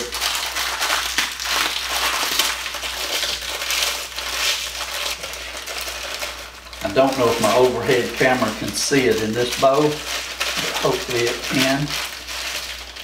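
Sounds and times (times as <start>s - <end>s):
crackers crunching: 0.0s - 13.0s
wrapper crinkling: 0.0s - 13.0s.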